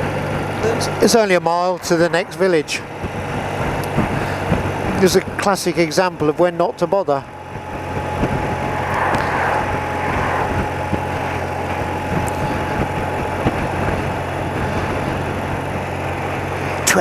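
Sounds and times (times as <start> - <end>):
motorcycle engine at low revs: 0.0 - 17.0
wind and road noise: 0.0 - 17.0.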